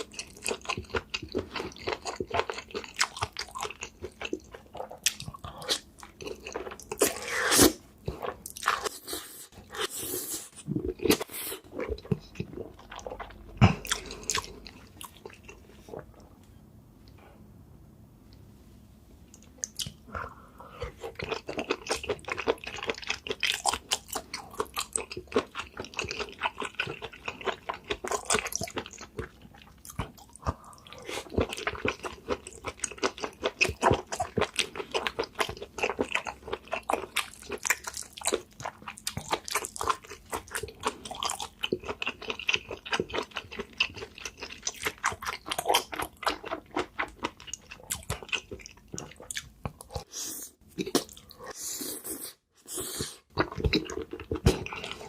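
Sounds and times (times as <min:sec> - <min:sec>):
person chewing with wet smacks: 0:00.0 - 0:09.1, 0:09.7 - 0:16.4, 0:19.3 - 0:20.1, 0:20.8 - 0:51.5, 0:53.0 - 0:55.0.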